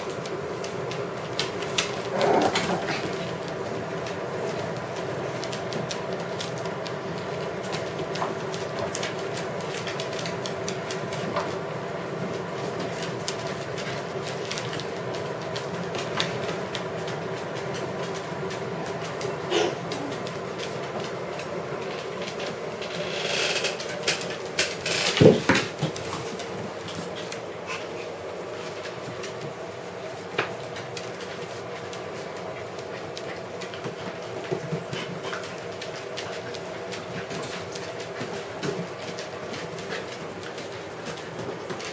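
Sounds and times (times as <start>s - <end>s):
dog claws clicking on tiled floor: 0.0s - 41.9s
steady background hum: 0.0s - 41.9s.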